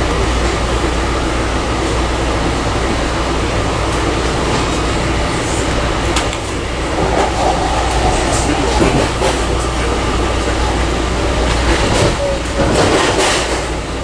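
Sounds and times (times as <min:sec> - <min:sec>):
train rumbling: 0:01.9 - 0:14.0.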